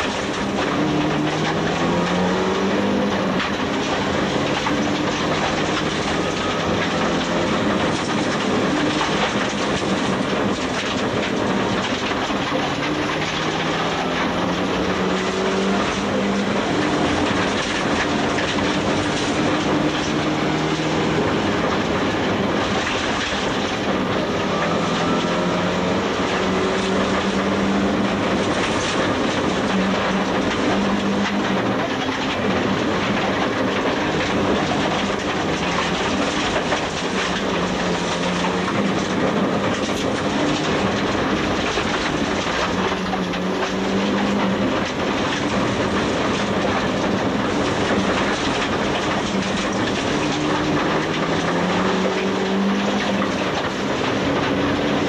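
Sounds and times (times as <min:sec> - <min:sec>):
gravel road noise: 0:00.0 - 0:55.0
rally car engine revving: 0:00.0 - 0:55.0.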